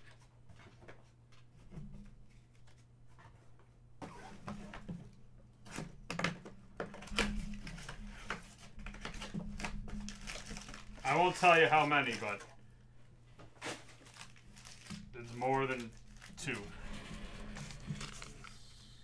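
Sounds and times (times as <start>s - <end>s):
low steady hum: 1.3s - 19.0s.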